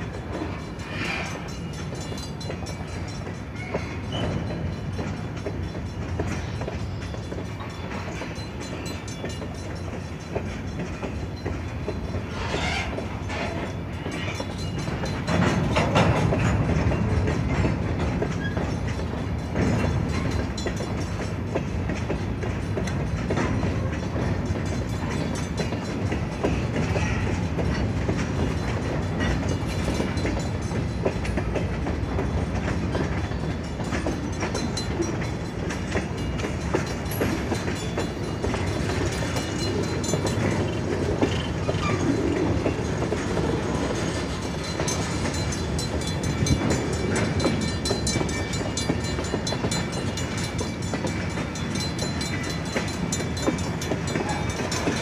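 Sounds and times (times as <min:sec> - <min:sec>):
clacks over rail joints: 0:00.0 - 0:55.0.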